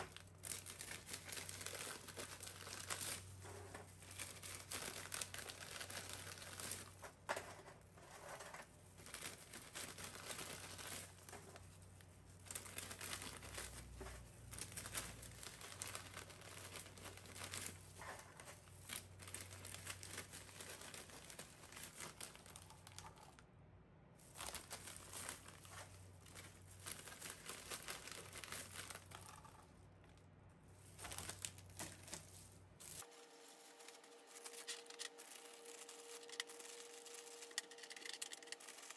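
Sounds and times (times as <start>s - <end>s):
plastic bag crinkling: 0.0s - 7.2s, 7.8s - 23.4s, 24.2s - 30.2s, 30.8s - 38.9s.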